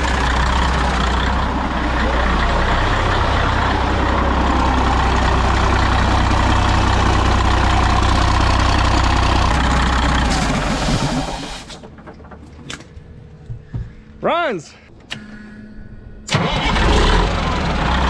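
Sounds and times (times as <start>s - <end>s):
diesel engine idling: 0.0s - 13.5s, 16.3s - 18.0s.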